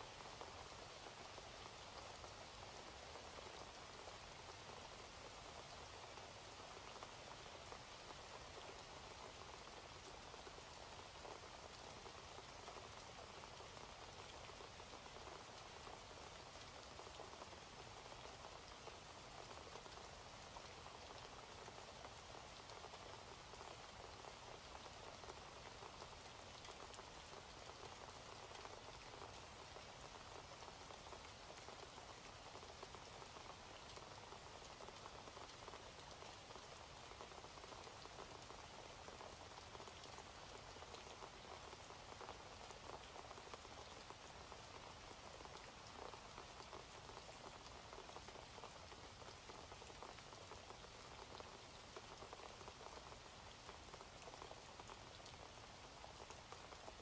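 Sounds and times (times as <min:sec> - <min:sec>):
faint rain hiss: 0:00.0 - 0:57.0
raindrops pattering: 0:00.0 - 0:57.0.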